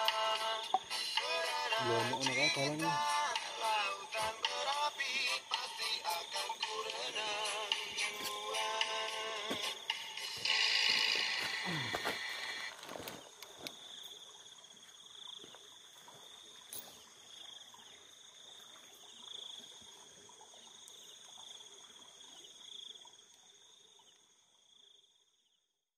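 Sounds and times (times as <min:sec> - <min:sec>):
crickets trilling: 0:00.0 - 0:25.6.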